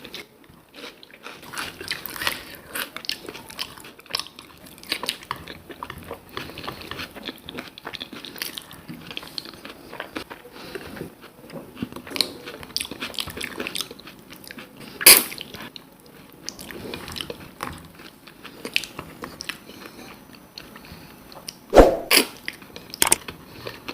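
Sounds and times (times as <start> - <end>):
person chewing and crunching food: 0.0 - 23.9.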